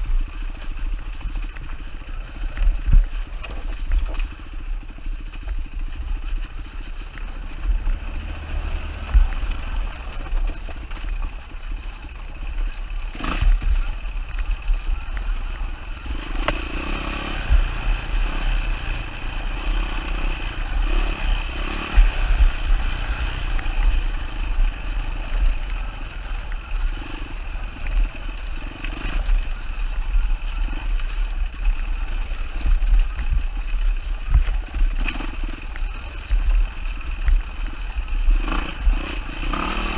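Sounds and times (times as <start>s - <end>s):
heavy fluttering low rumble: 0.0s - 39.7s
dirt bike engine running: 0.0s - 39.9s.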